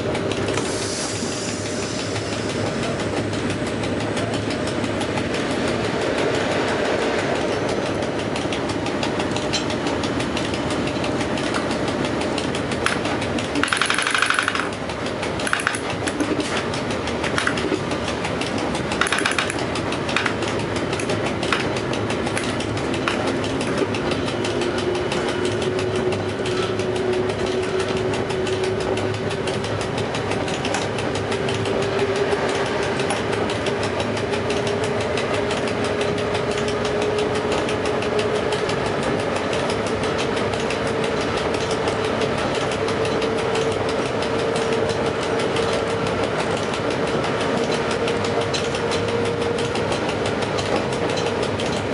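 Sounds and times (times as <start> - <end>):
sharp clicks: 0.0 - 51.9
wheels rumbling on rails: 0.0 - 51.9.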